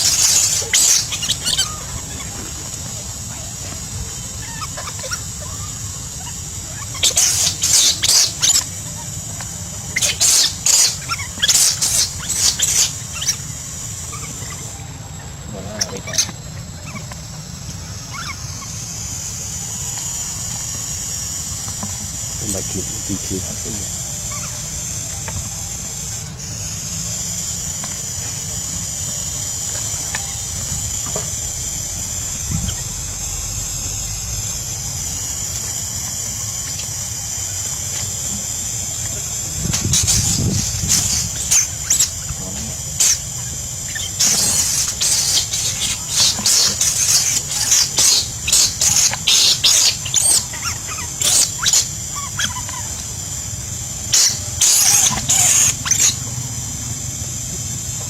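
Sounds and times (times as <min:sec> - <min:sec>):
monkey squealing: 0:00.0 - 0:56.3
high-pitched drone: 0:00.0 - 0:58.0.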